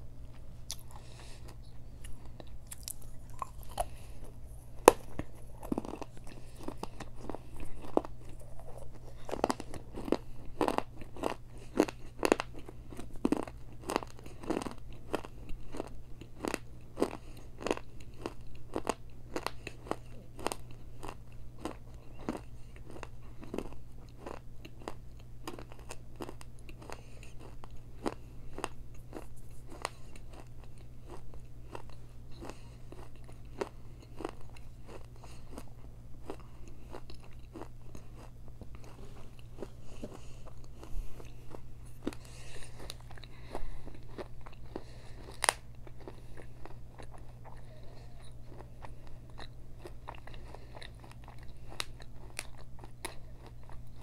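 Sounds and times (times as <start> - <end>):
crunching and chewing clay: 0.2 - 54.0.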